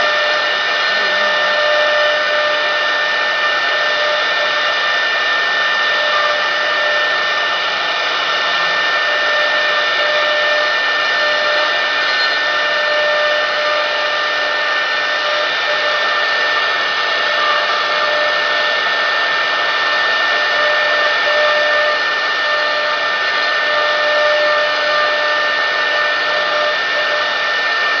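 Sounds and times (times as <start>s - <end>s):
router spindle high whine: 0.0s - 28.0s.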